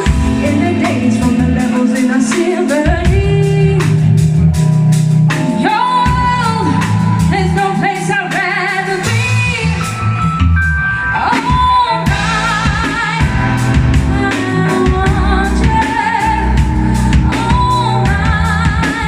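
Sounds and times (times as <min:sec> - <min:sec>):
woman singing: 0:00.0 - 0:04.4, 0:05.5 - 0:10.0, 0:11.1 - 0:19.0
live band playing: 0:00.0 - 0:19.0.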